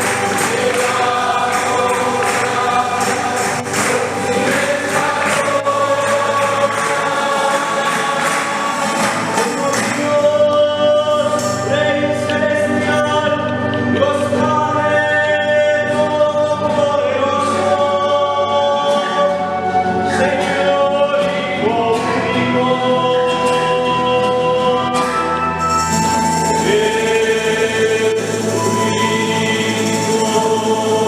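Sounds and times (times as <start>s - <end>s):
choir singing a hymn: 0.0s - 25.0s, 25.6s - 31.0s.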